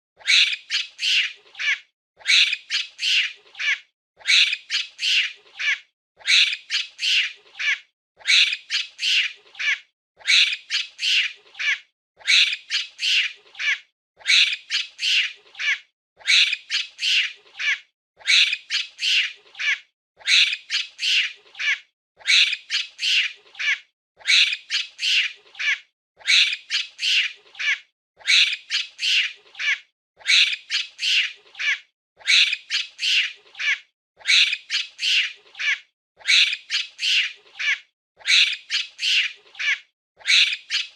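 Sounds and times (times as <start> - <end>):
monkey screeching calls: 0.2 - 40.9.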